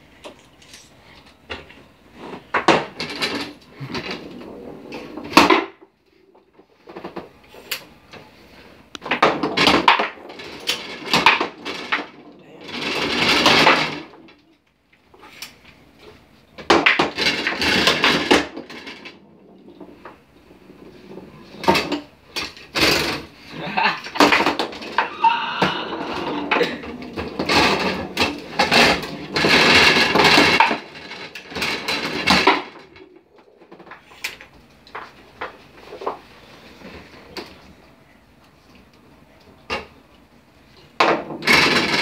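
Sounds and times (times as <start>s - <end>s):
foosball clacks and rattles: 0.2s - 37.8s, 39.5s - 42.0s.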